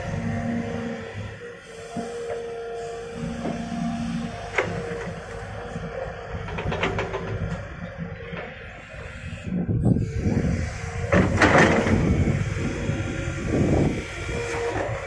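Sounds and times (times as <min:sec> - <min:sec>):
excavator engine and hydraulics drone: 0:00.0 - 0:15.0.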